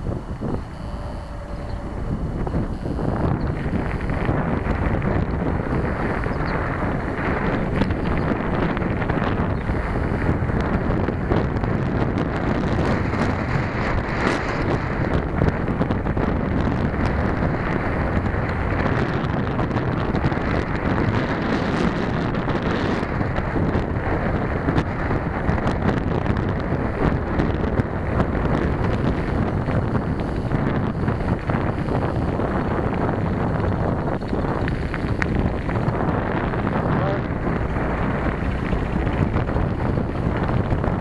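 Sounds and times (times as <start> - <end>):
bicycle tyres rolling on gravel: 0.0 - 41.0
bike rattles and ticks: 0.0 - 41.0
wind buffeting microphone: 0.0 - 41.0.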